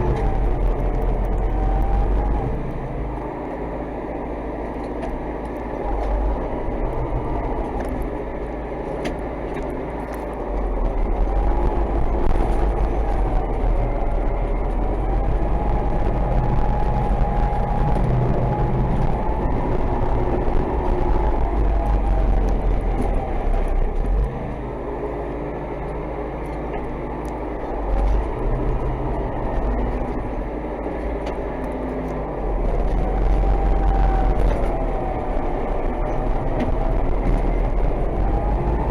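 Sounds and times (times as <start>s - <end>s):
faint clatter: 0.0s - 38.9s
tractor diesel engine running: 0.0s - 38.9s.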